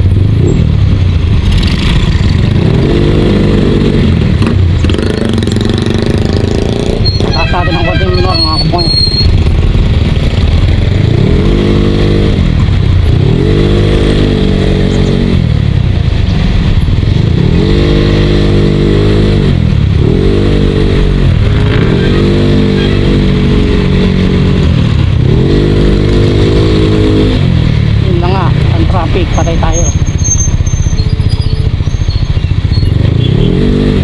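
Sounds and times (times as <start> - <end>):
scooter engine revving: 0.0 - 34.0.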